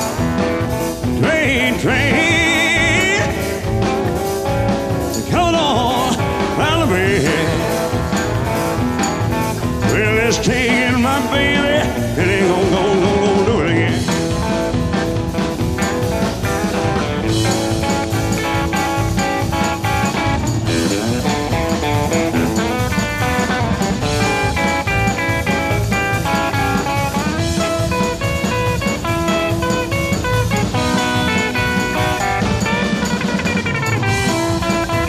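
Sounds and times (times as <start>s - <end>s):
bass guitar: 0.0s - 35.0s
drums: 0.0s - 35.0s
lead guitar runs: 0.0s - 35.0s.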